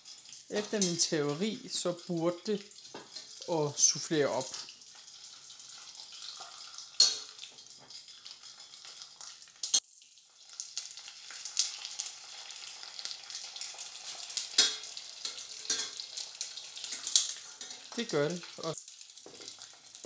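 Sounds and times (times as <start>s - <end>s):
deep-frying sizzle with crackling pops: 0.0s - 20.0s.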